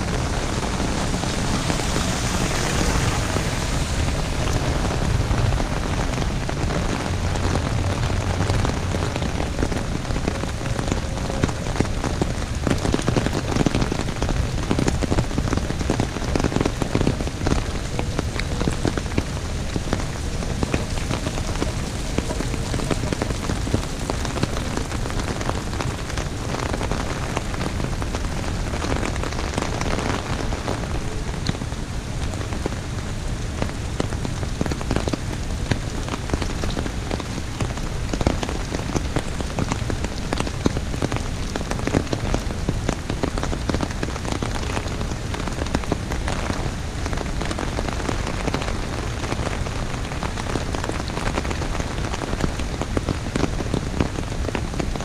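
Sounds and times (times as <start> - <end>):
heavy rain on an umbrella: 0.0 - 55.0.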